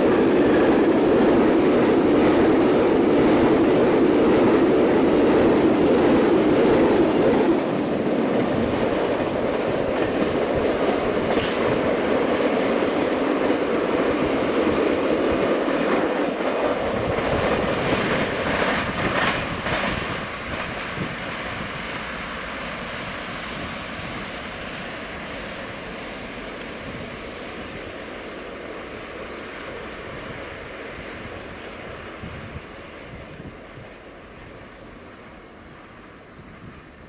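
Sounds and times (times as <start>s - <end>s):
freight train rumble: 0.0s - 37.0s.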